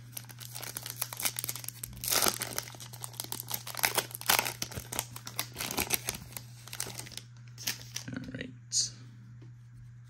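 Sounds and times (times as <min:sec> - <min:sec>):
plastic wrapper crinkling and tearing: 0:00.0 - 0:08.1.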